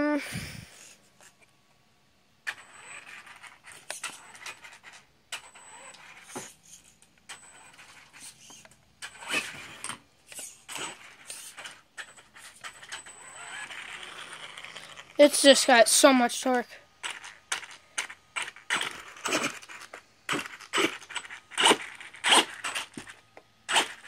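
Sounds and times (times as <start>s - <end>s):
toy truck motor whirring: 2.4s - 24.0s.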